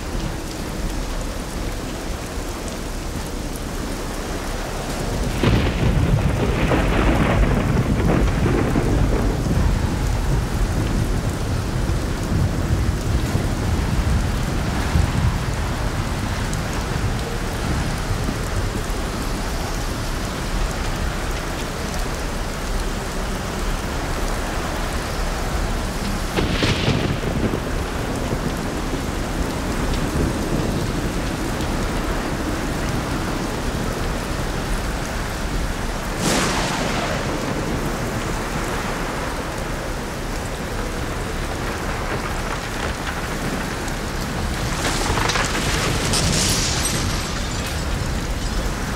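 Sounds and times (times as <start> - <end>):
steady rain: 0.0 - 48.9
rolling thunder: 3.4 - 48.9.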